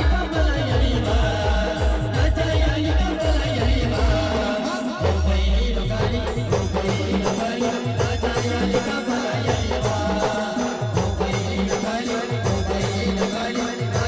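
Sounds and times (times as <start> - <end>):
keyboard melody over a beat: 0.0 - 14.0.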